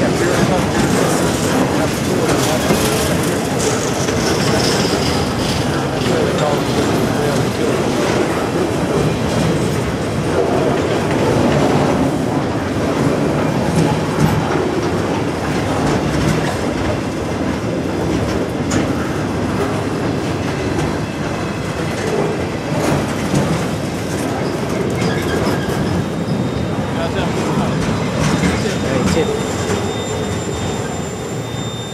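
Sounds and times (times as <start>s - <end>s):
train wheels clacking over joints: 0.0s - 31.0s.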